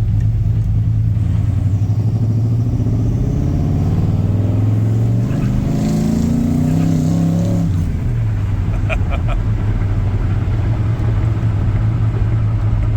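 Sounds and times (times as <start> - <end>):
truck engine revving and idling: 0.0 - 12.9.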